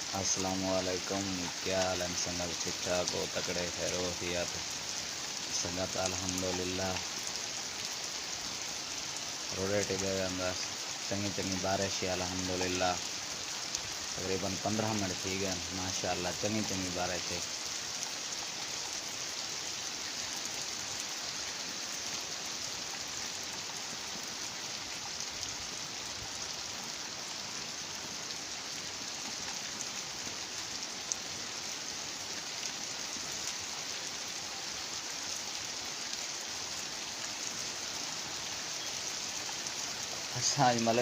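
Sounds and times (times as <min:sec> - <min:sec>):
heavy rain hissing: 0:00.0 - 0:41.0.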